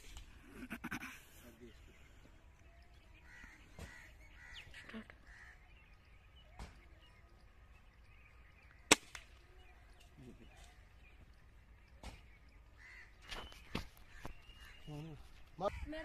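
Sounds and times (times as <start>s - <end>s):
faint bird calls: 0.2s - 16.0s.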